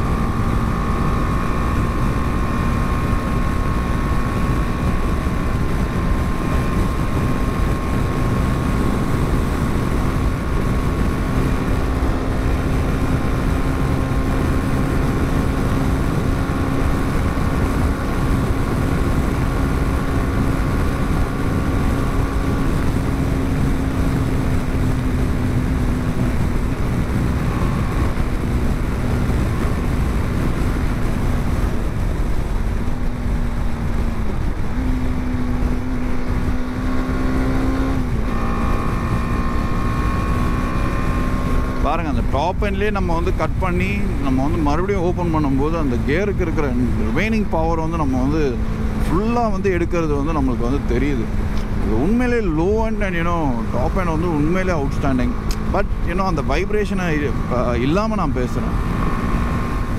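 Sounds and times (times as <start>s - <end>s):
motorcycle engine cruising: 0.0s - 59.9s
wind rush: 0.0s - 59.9s.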